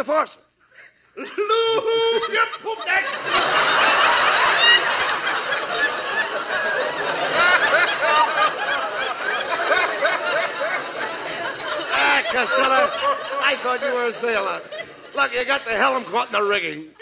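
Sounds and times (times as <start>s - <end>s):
studio audience laughing: 1.2s - 16.6s.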